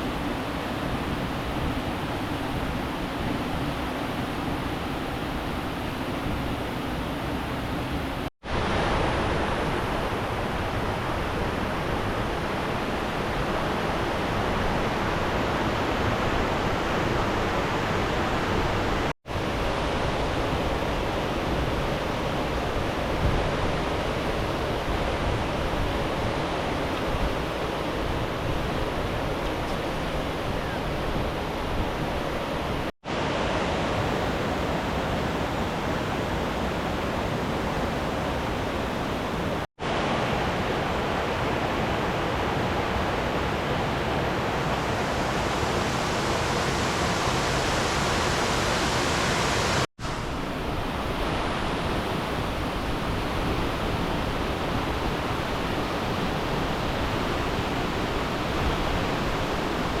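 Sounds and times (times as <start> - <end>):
river water rushing: 0.0 - 60.0.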